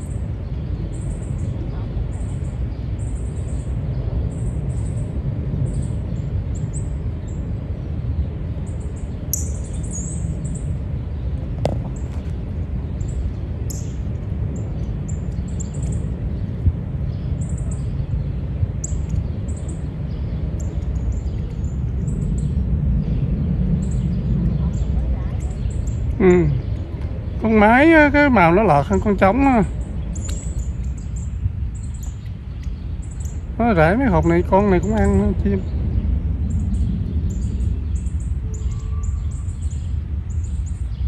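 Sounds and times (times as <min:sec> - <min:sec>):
small birds chirping: 0:00.0 - 0:41.0
steady low rumble: 0:00.0 - 0:41.0.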